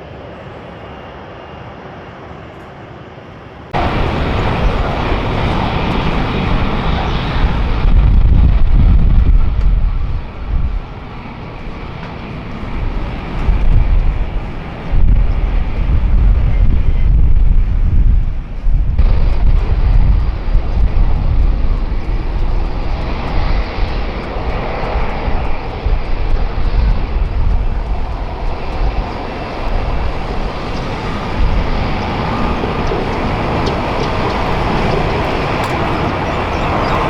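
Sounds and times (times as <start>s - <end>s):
aircraft passing rumble: 0.0s - 37.0s
jet airliner engine: 0.0s - 37.0s.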